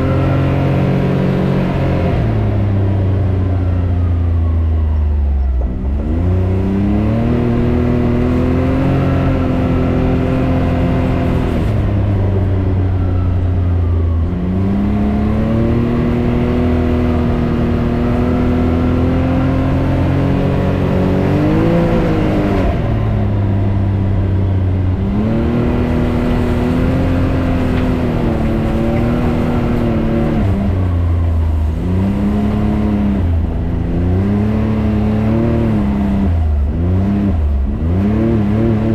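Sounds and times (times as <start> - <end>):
engine revving under throttle: 0.0 - 3.2, 5.6 - 13.2, 13.8 - 38.9.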